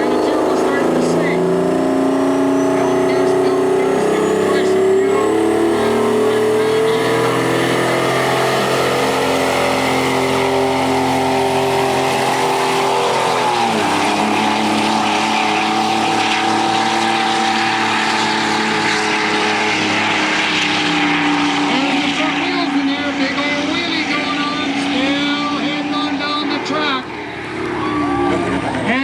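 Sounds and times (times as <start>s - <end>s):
turbo whine: 0.0s - 28.6s
truck diesel engine at full throttle: 0.0s - 29.0s.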